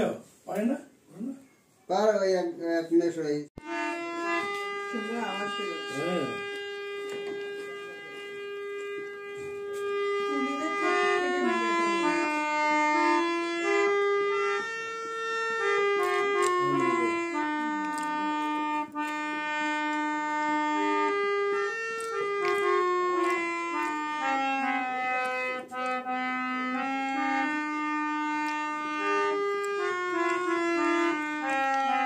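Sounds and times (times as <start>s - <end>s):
harmonium slow melody: 1.2s - 32.0s.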